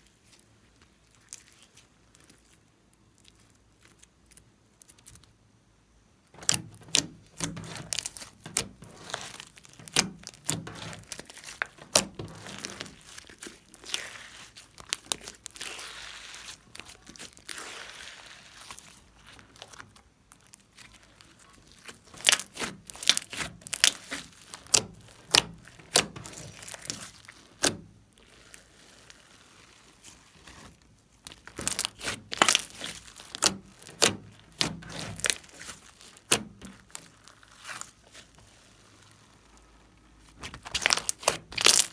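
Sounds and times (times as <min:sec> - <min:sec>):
slime crackling: 0:00.0 - 0:05.3, 0:06.3 - 0:41.9
slime squeezed by hand: 0:06.4 - 0:41.9.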